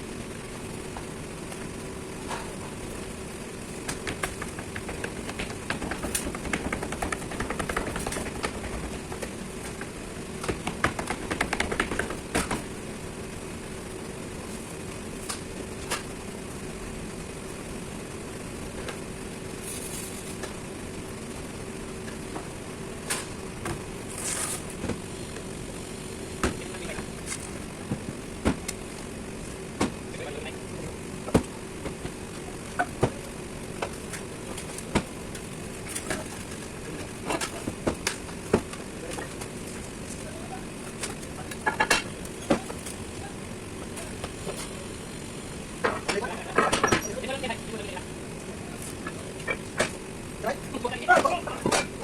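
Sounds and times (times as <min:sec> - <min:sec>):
workshop machinery humming: 0:00.0 - 0:52.0.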